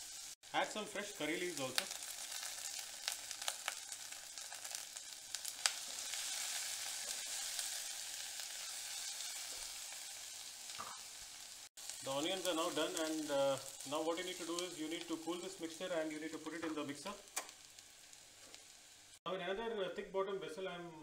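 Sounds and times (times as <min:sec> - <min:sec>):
onions sizzling in hot oil: 0:00.0 - 0:19.3.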